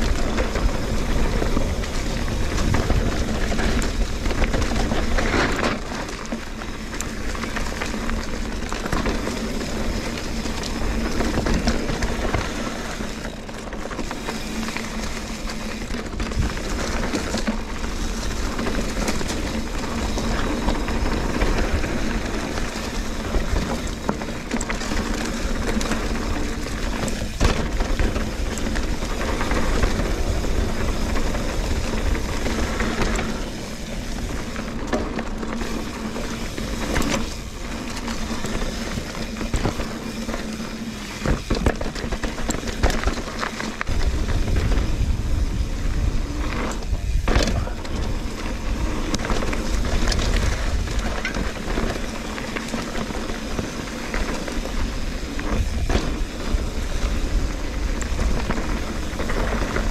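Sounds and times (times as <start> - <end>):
bike rattling over bumps: 0.0 - 59.9
tyre and wind noise: 0.0 - 59.9.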